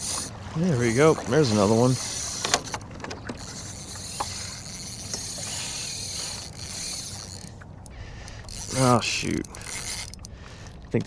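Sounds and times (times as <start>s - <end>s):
fishing reel winding: 0.0s - 2.8s, 3.4s - 10.8s
rod and gear clicks and knocks: 0.0s - 11.0s.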